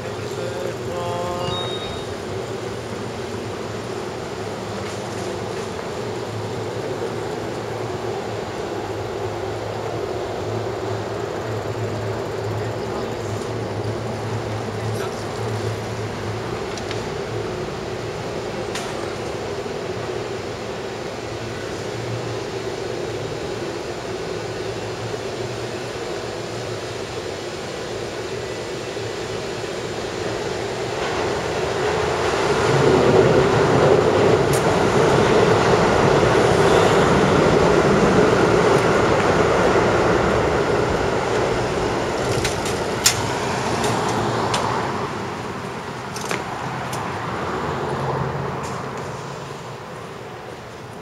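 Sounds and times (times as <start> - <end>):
electric train rumbling on viaduct: 0.0 - 51.0.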